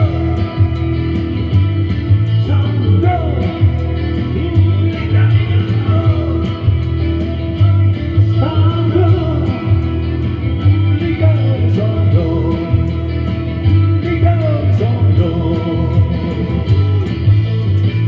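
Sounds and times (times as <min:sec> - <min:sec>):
drums: 0:00.0 - 0:18.0
electric guitars: 0:00.0 - 0:18.0.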